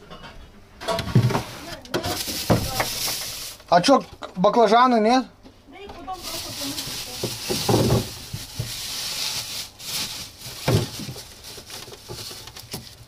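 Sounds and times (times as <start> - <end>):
rustling and handling noise: 0.8 - 4.3, 5.5 - 13.0.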